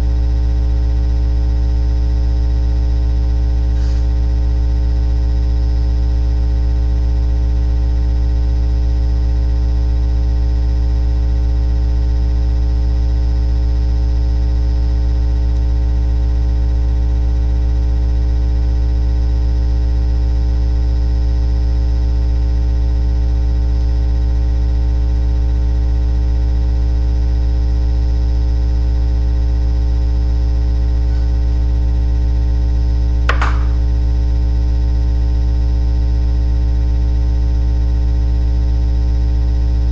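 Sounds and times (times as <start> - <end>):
loud electrical hum: 0.0 - 39.9.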